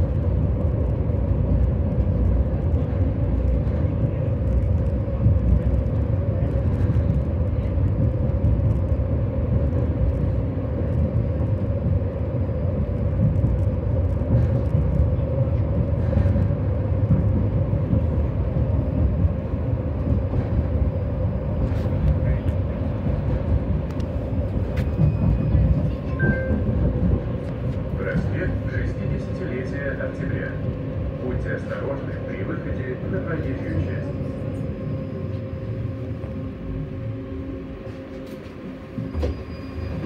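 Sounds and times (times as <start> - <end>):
tram wheels rumbling on rails: 0.0 - 40.0.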